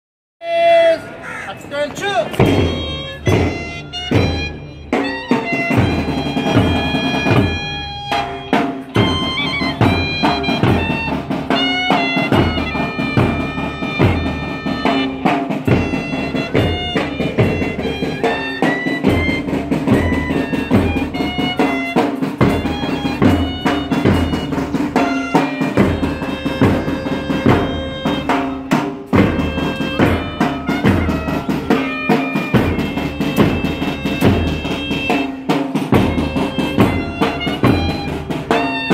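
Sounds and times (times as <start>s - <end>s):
drums keeping a beat: 0.4s - 38.9s
bagpipe melody over drone: 2.3s - 38.9s.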